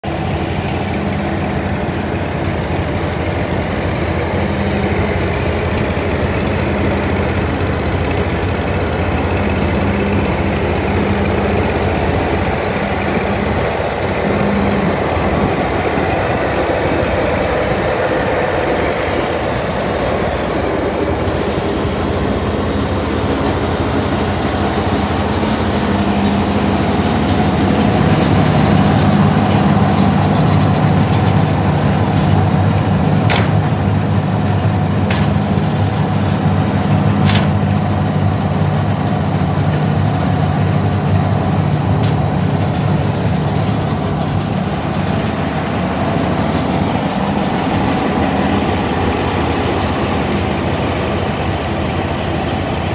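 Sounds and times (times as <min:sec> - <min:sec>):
wood chipper engine running: 0:00.0 - 0:52.9.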